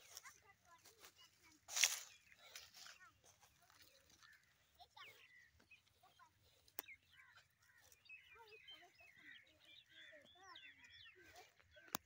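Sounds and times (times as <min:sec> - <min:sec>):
chorus of short bird calls: 0:00.0 - 0:12.0.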